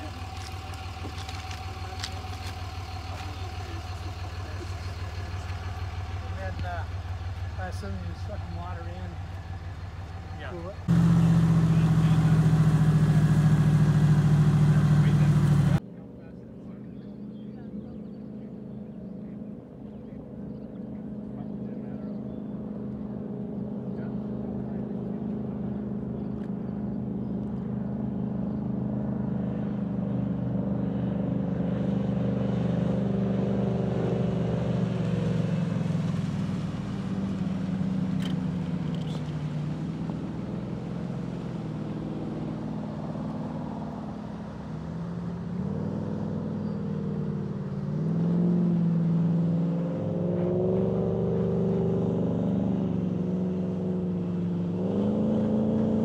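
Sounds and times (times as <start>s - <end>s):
personal watercraft engine passing: 0.0s - 56.0s.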